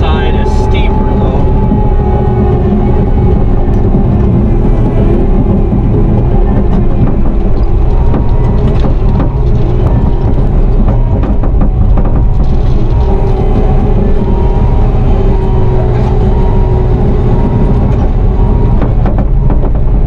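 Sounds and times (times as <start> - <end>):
diesel loader engine running: 0.0 - 20.0.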